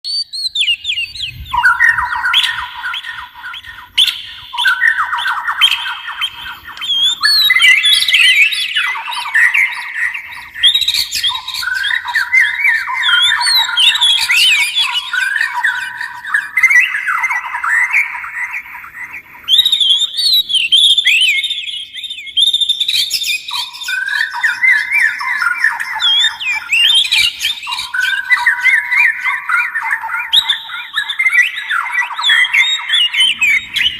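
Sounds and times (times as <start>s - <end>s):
songbirds whistling song: 0.0s - 33.9s.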